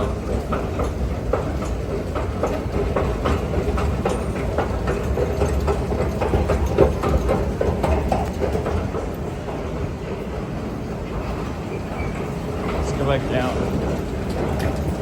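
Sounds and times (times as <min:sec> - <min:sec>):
escalator mechanical rumble: 0:00.0 - 0:15.0
escalator steps clicking and rattling: 0:00.0 - 0:15.0.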